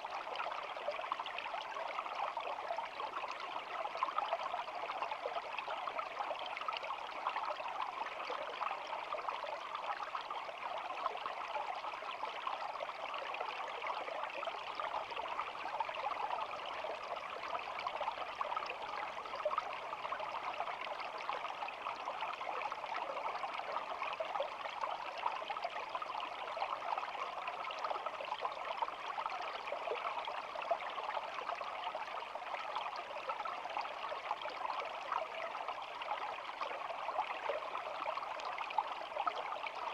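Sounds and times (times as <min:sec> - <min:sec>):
stream babbling and trickling: 0:00.0 - 0:39.9.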